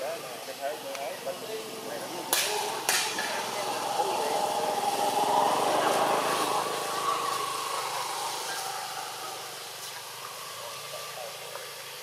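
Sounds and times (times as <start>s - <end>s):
motor engine running: 1.1s - 11.9s.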